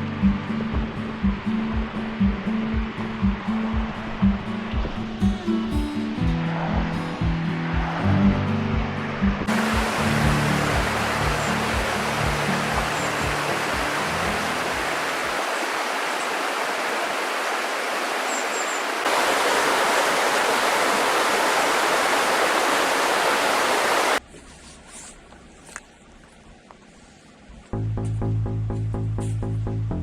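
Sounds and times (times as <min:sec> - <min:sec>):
river water rushing over rocks: 0:00.1 - 0:24.2.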